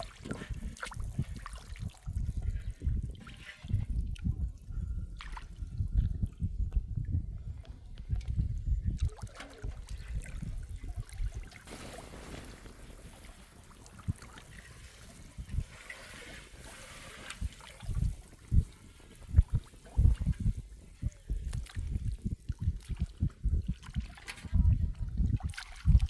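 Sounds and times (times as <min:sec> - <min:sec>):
water splashing and trickling: 0:00.0 - 0:04.5, 0:08.9 - 0:26.0.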